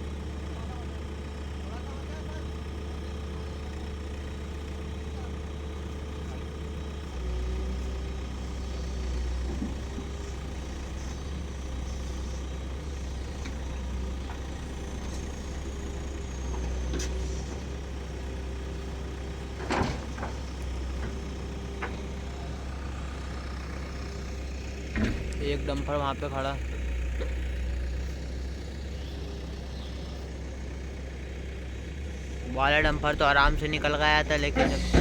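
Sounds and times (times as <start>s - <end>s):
heavy diesel engines running: 0.0s - 35.0s.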